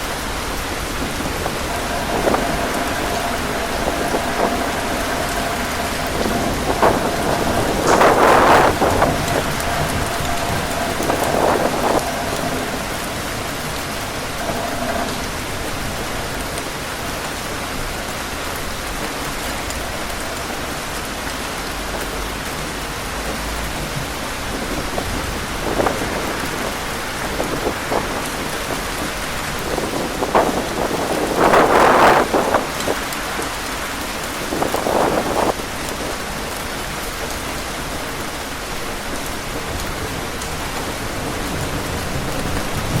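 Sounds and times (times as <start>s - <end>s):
heavy rain with wind: 0.0s - 43.0s.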